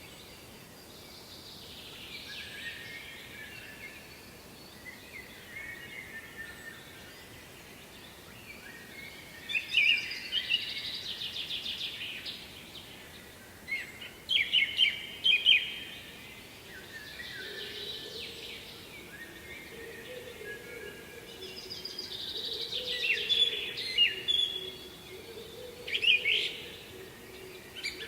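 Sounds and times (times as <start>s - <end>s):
faint background hiss: 0.0s - 28.0s
songbirds singing: 0.0s - 28.0s.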